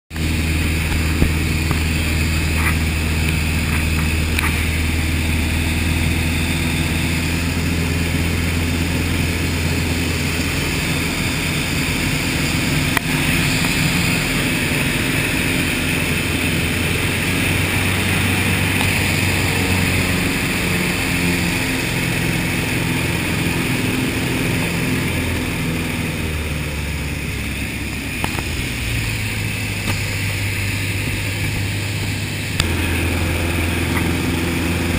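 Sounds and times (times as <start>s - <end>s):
propeller engine droning: 0.1s - 34.9s
rush of airflow: 0.2s - 34.9s.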